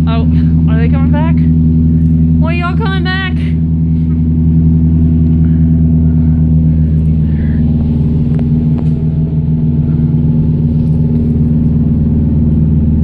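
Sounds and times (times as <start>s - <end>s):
ship machinery droning hum: 0.0s - 13.0s.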